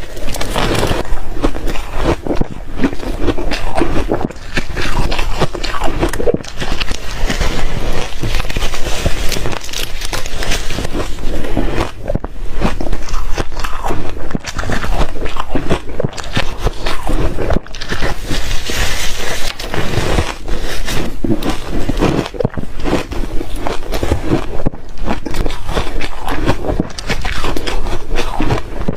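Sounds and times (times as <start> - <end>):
crunching and chewing ice: 0.0 - 28.9.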